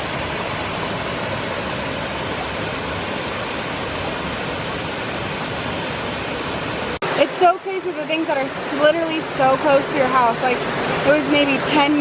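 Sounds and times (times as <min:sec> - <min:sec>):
small waterfall rushing: 0:00.0 - 0:12.0.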